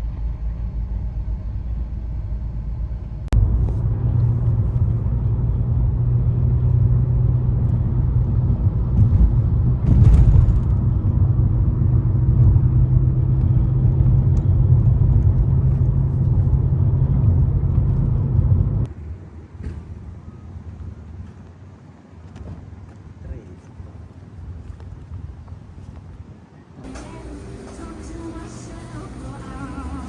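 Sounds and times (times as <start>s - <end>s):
motor vehicle engine rumbling: 0.0s - 25.4s, 26.8s - 30.0s.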